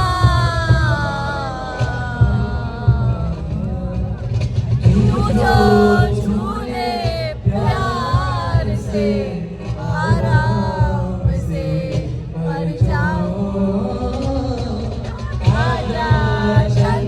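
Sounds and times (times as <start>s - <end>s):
music with heavy low beat: 0.0s - 17.0s
person singing: 0.0s - 17.0s.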